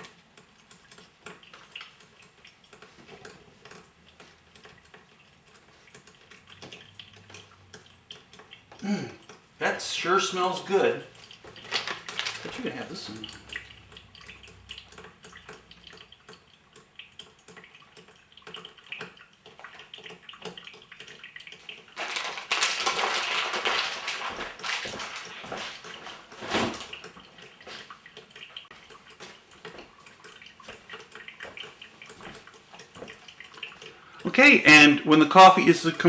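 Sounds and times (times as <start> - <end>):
coffee maker water sputtering: 0.0 - 36.0.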